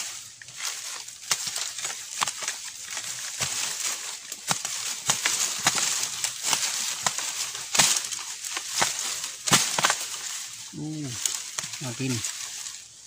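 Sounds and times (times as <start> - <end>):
leaf litter and soil crunching: 0.0 - 13.0.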